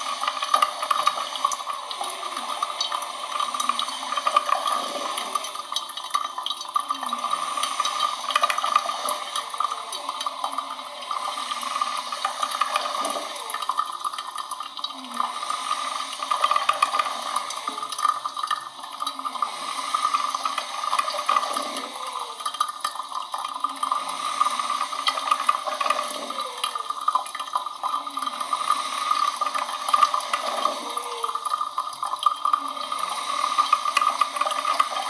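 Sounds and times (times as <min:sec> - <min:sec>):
coffee machine hissing: 0:00.0 - 0:35.0.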